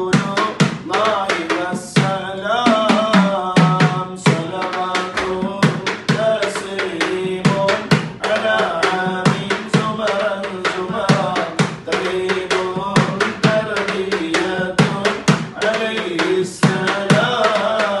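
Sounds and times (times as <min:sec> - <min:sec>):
hand drum rhythm: 0:00.0 - 0:18.0
men singing devotional song: 0:00.0 - 0:18.0.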